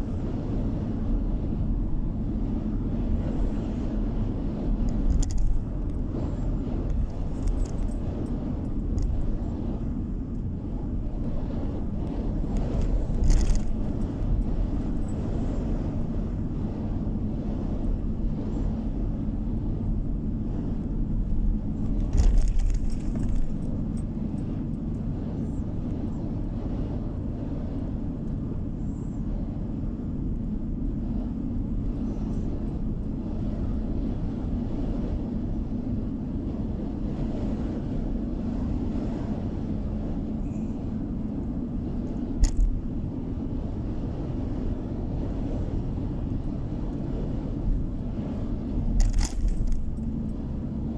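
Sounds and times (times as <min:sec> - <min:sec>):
car road and engine noise: 0:00.0 - 0:50.9.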